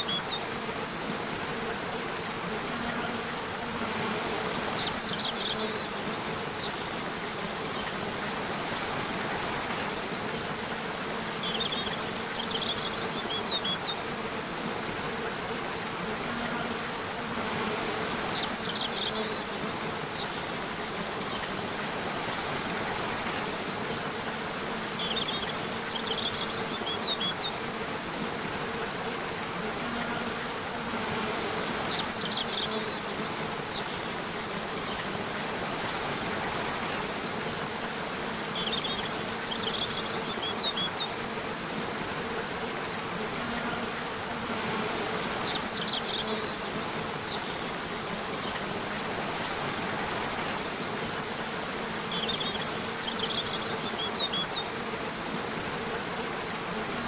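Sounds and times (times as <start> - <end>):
faint insect buzz: 0.0 - 57.0
rushing water: 0.0 - 57.0.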